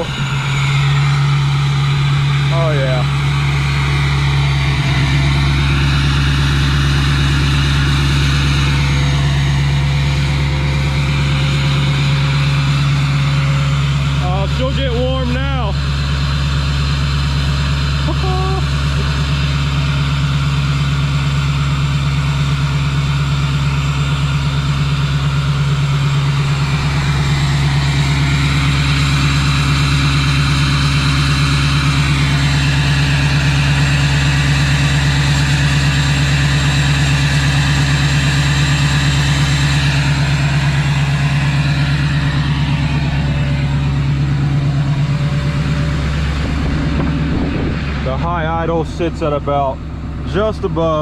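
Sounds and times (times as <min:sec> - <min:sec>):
diesel engine idling loudly: 0:00.0 - 0:51.0.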